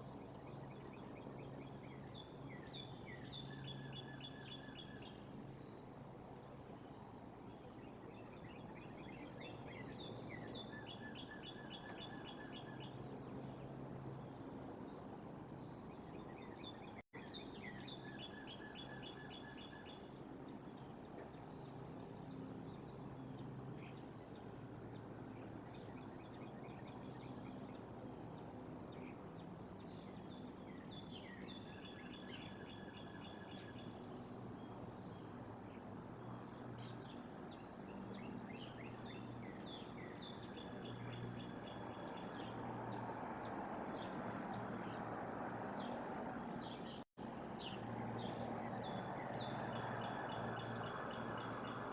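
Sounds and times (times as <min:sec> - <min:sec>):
outdoor background noise: 0:00.0 - 0:51.9.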